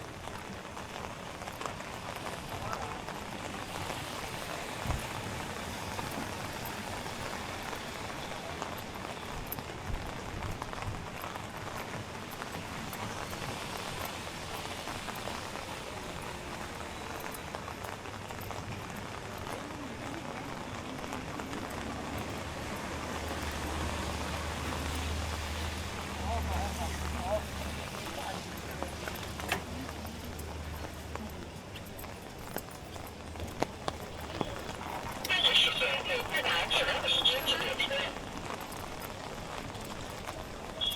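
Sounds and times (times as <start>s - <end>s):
rain falling on a street: 0.0s - 40.9s.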